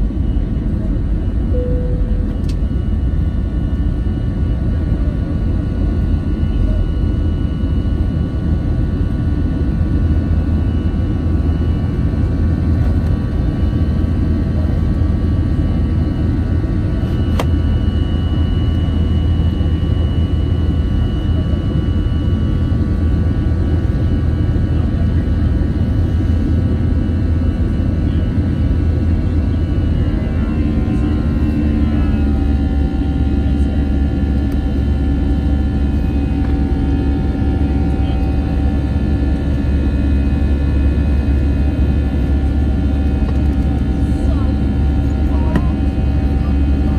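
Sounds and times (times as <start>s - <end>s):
jet engine rumble in cabin: 0.0s - 46.9s.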